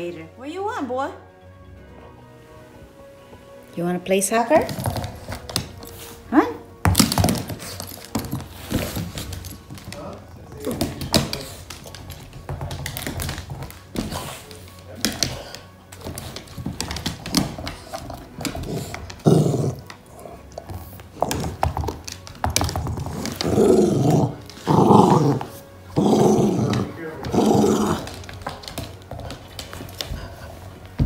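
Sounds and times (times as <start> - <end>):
claws and ball tapping on floor: 4.6 - 6.1, 6.8 - 31.0
dog play-growling: 4.6 - 31.0.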